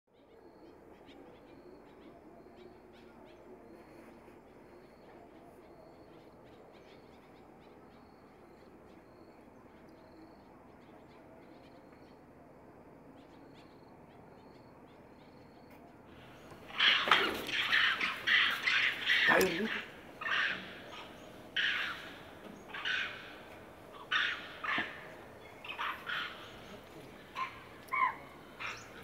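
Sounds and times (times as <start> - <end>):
soft low bird calls: 0.1 - 29.0.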